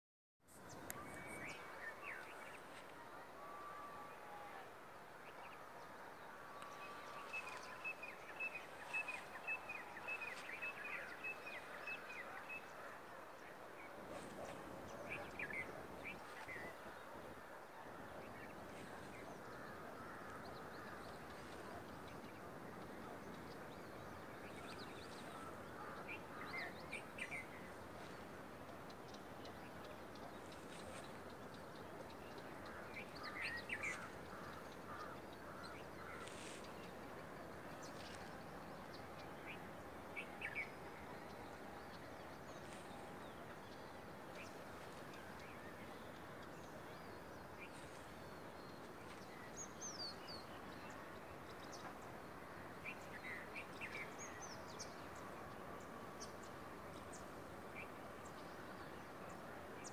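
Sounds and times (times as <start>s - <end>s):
faint open country background: 0.4s - 59.9s
birds chirping: 0.5s - 59.9s.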